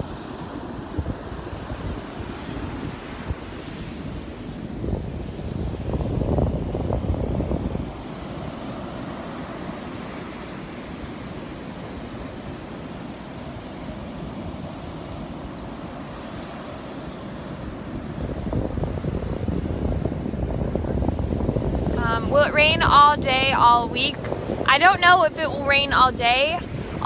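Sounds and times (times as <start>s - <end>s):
surf washing onto beach: 0.0s - 27.0s
wind buffeting microphone: 0.0s - 27.0s.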